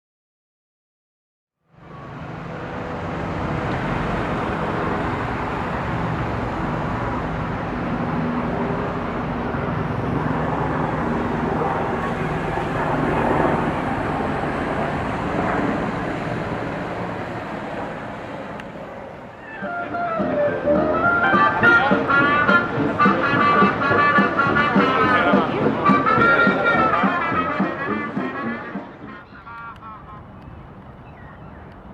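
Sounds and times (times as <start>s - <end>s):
road noise from passing vehicles: 1.6s - 31.9s
traffic engine hum: 1.7s - 31.9s.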